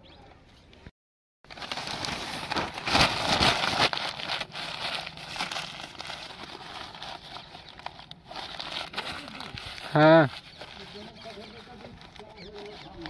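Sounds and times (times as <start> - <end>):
newspaper crumpled by hand: 1.5 - 13.0.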